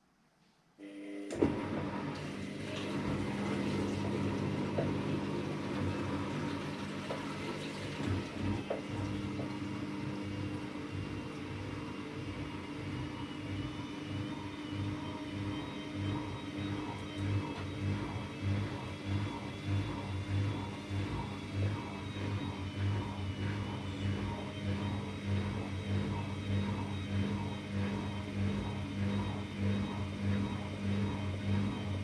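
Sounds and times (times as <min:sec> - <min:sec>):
washing machine hum: 0:00.8 - 0:32.0.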